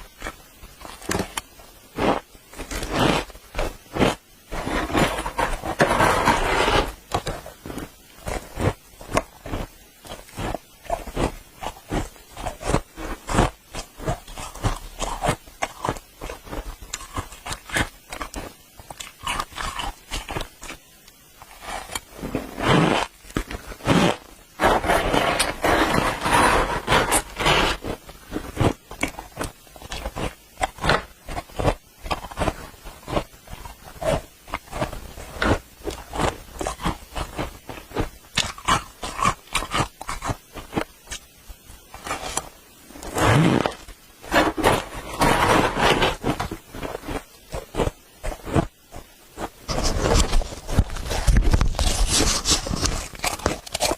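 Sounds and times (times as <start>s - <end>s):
spoon scraping frost: 2.0s - 20.8s, 21.4s - 41.2s, 41.9s - 53.9s.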